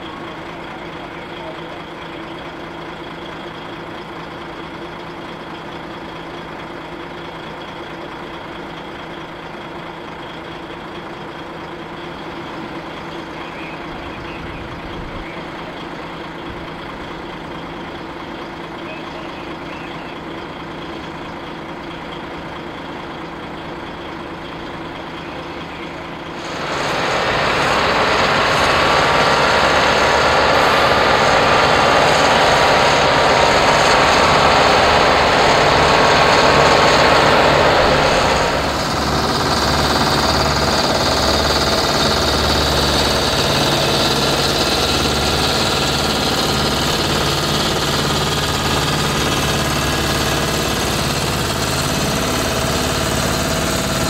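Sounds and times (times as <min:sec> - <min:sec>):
diesel lorry engines running: 0:00.0 - 0:54.0.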